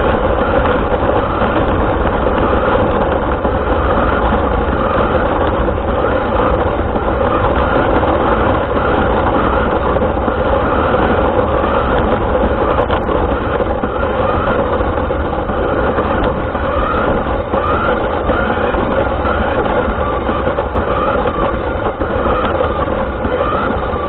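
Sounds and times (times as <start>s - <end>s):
rc car motor whine: 0.0s - 24.0s
steady rumble: 0.0s - 24.0s.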